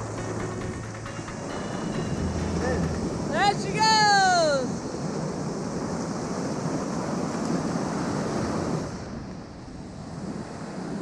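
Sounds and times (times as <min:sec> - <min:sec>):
ocean surf washing on beach: 0:00.0 - 0:11.0
wind on microphone: 0:00.0 - 0:11.0.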